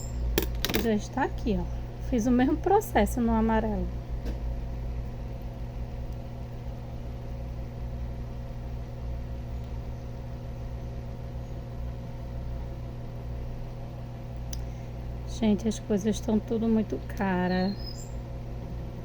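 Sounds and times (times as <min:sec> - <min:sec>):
low electrical hum with buzz: 0:00.0 - 0:19.0.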